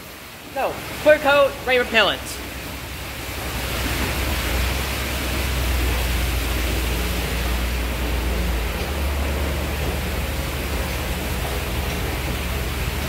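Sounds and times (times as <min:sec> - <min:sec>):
low machine hum: 0:00.0 - 0:13.0
spraying water hiss: 0:00.0 - 0:13.0.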